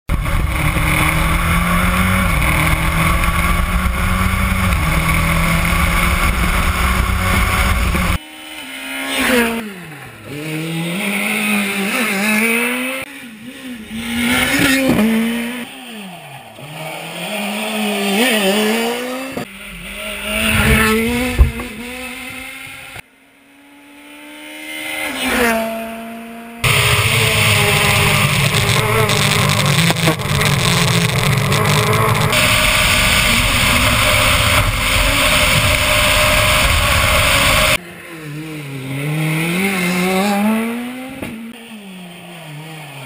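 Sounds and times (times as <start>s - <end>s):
rally car engine revving: 0.1s - 23.0s, 23.6s - 43.0s.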